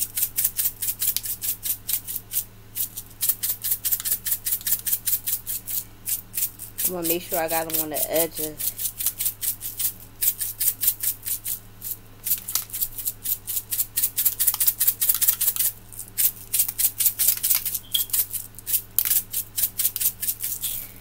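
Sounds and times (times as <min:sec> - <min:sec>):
sprinkles rattling in a shaker: 0:00.0 - 0:21.0.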